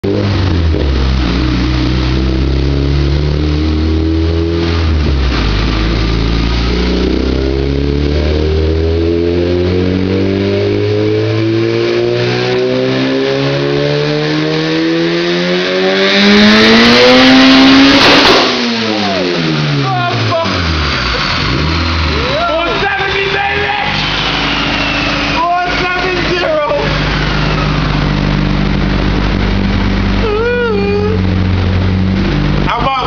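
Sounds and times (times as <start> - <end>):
turbocharged engine revving: 0.0 - 33.0.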